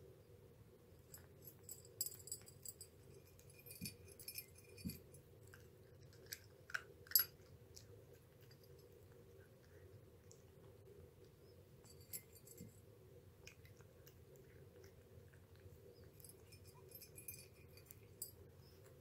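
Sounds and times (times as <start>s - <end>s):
cat crunching food: 1.1s - 19.0s.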